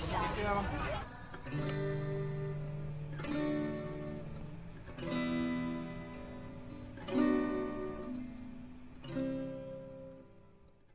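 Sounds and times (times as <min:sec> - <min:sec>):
strummed acoustic guitar chords: 0:00.0 - 0:10.9.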